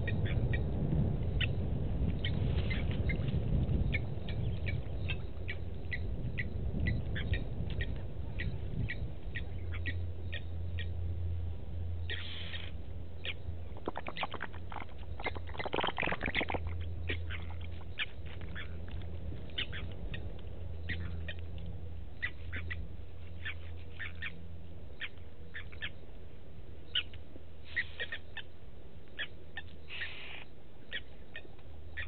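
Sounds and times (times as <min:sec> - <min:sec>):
steady low hum: 0:00.0 - 0:32.0
birds calling metallic notes: 0:02.2 - 0:11.0, 0:12.0 - 0:26.0, 0:26.8 - 0:28.6, 0:29.2 - 0:32.0.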